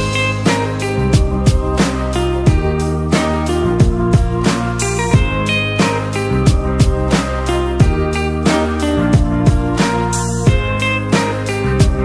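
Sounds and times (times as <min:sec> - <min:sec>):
held instrumental notes: 0:00.0 - 0:12.0
steady drum beat: 0:00.0 - 0:12.0.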